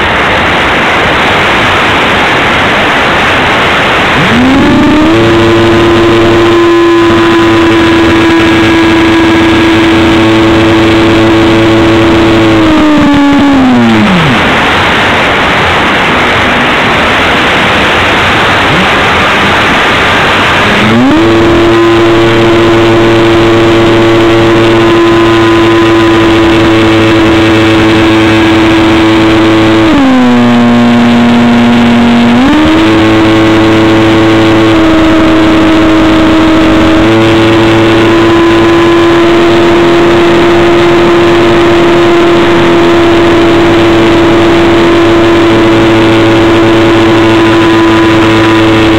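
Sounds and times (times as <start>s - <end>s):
electric motor whine: 2.6s - 48.9s.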